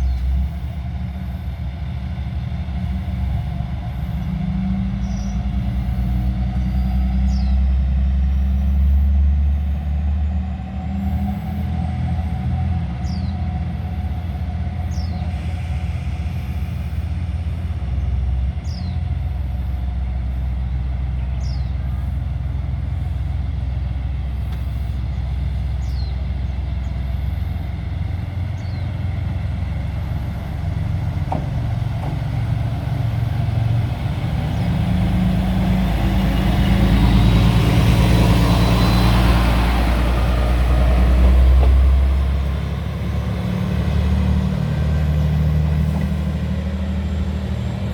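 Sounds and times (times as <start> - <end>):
diesel railcar engine throbbing: 0.0 - 47.9.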